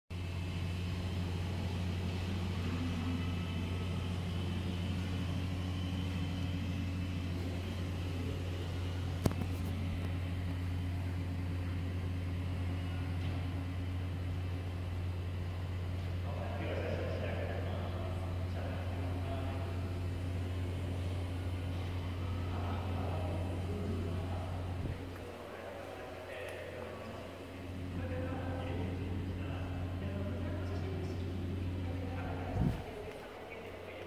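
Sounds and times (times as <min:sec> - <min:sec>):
low room hum: 0:00.2 - 0:34.0.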